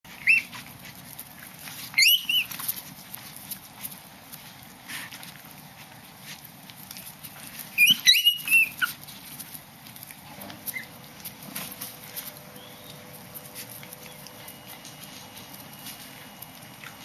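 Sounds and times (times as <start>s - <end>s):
puppies yelping: 0.1s - 5.9s, 6.7s - 17.0s
faint scuffling: 0.1s - 17.0s.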